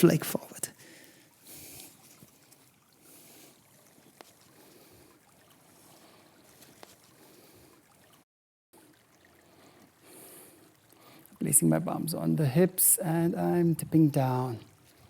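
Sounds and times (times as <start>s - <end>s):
running stream: 0.0s - 15.0s.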